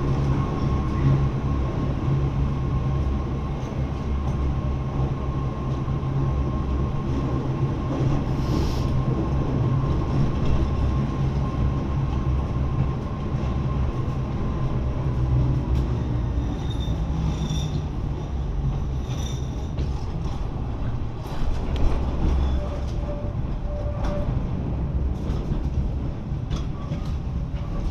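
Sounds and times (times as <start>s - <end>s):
train running rumble: 0.0s - 27.9s.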